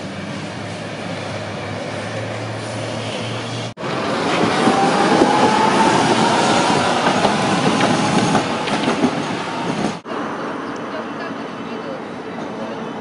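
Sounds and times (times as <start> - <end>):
faint tram whine: 0.0 - 13.0
tram wheels rumbling on rails: 0.0 - 13.0.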